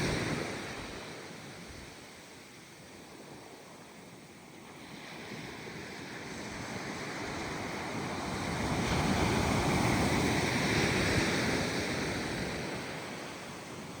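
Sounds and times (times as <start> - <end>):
ocean waves breaking on a beach: 0.0 - 14.0.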